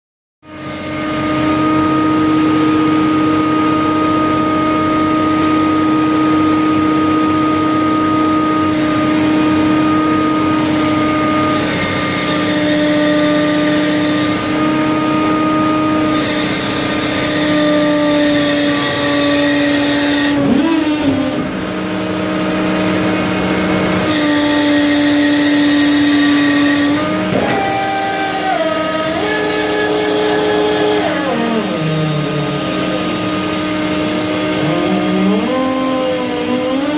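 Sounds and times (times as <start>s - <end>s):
winch machinery humming with whine: 0.4s - 36.9s.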